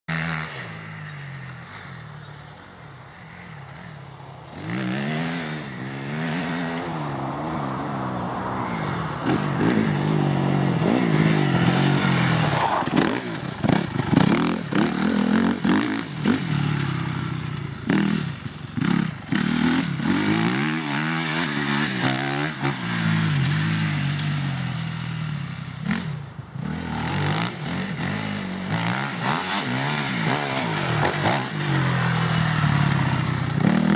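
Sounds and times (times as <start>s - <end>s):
motocross bike engine revving: 4.5s - 33.9s.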